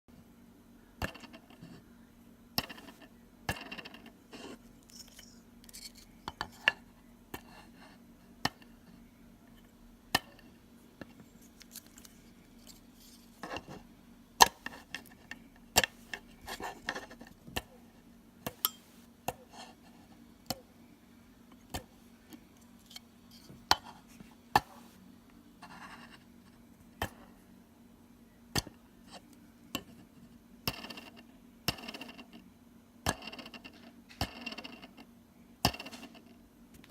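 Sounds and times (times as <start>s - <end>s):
faint steady hum: 0.1s - 36.9s.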